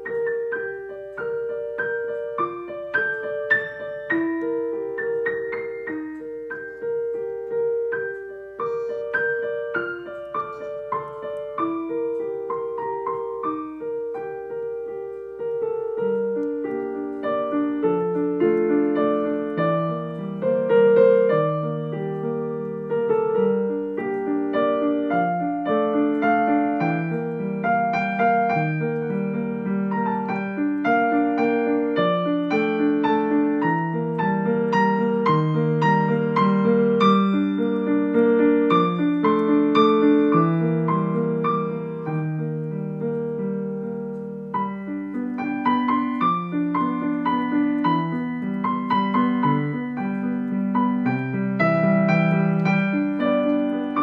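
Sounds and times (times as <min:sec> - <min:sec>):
piano played with both hands: 0:00.0 - 0:54.0.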